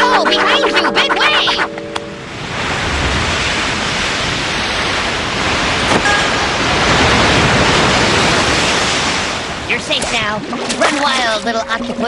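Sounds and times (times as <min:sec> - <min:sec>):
ocean wave crashing: 0:00.0 - 0:09.8.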